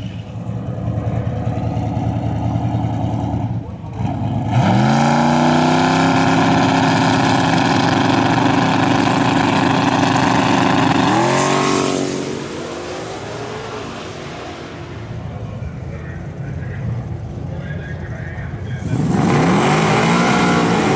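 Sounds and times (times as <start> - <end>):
racing car engine revving: 0.0 - 20.9.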